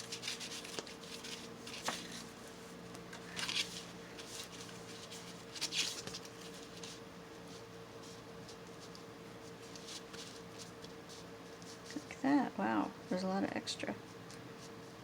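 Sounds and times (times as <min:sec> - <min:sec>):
paper rustling: 0:00.0 - 0:12.1.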